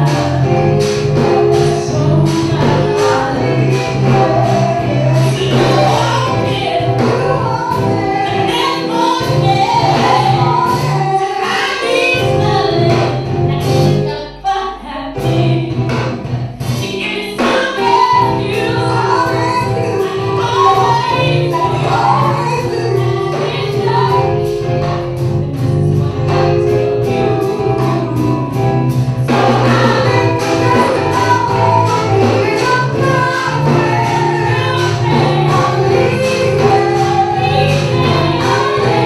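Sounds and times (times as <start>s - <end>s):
backing singers: 0.0s - 39.0s
drums: 0.0s - 39.0s
guitar: 0.0s - 39.0s
keyboards: 0.0s - 39.0s
woman singing into microphone: 0.0s - 39.0s.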